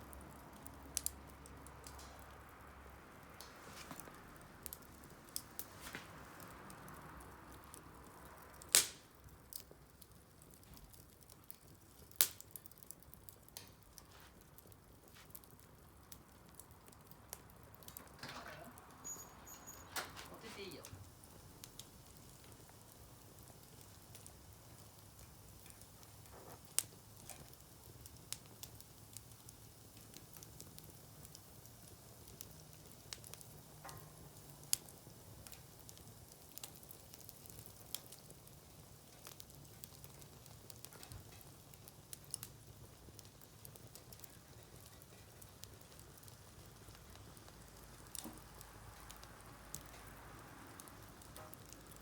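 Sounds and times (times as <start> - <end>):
campfire crackling and popping: 0.0 - 52.0
faint steady hiss: 0.0 - 52.0.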